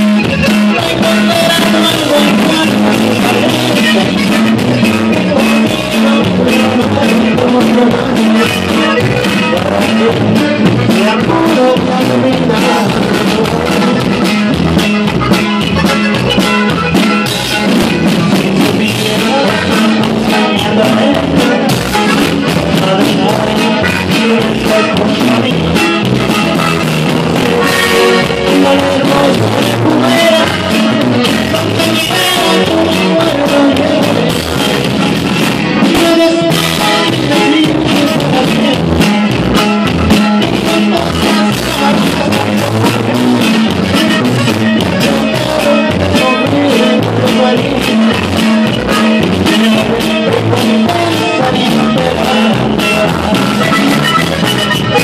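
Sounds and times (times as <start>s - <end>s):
button accordion melody: 0.0s - 55.0s
drum kit beat: 0.0s - 55.0s
man singing: 0.0s - 55.0s.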